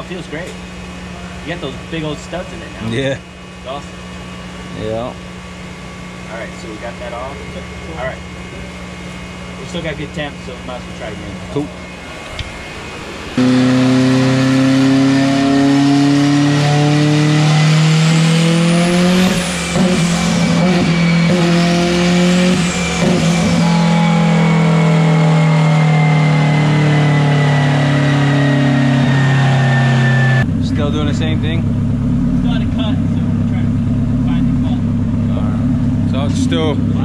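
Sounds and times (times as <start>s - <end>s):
thin high whine: 0.0s - 16.0s, 17.4s - 37.0s
race car engine running hard: 0.0s - 37.0s.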